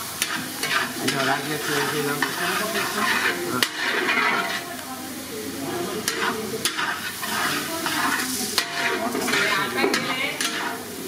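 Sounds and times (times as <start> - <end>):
minced meat sizzling: 0.0 - 11.0
metal spatula scraping pan: 0.2 - 4.7, 5.9 - 11.0.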